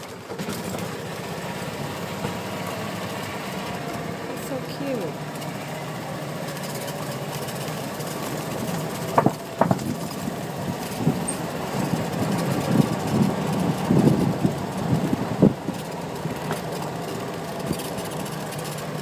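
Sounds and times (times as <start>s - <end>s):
cart knocks and rattles: 0.0s - 19.0s
golf cart humming: 0.0s - 19.0s.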